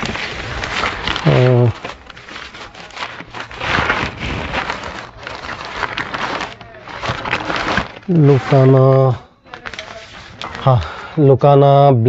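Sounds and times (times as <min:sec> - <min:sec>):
packaging rustling and scraping: 0:00.0 - 0:11.2.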